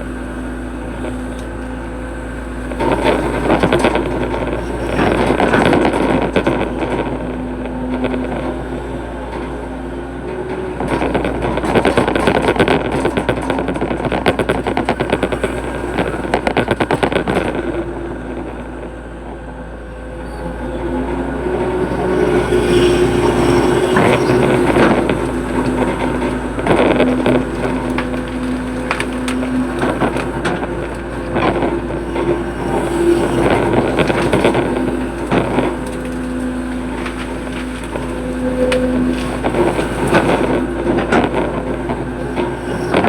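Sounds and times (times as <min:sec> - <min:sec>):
excavator clattering and knocks: 0:00.0 - 0:43.0
excavator diesel engine under load: 0:00.0 - 0:43.0.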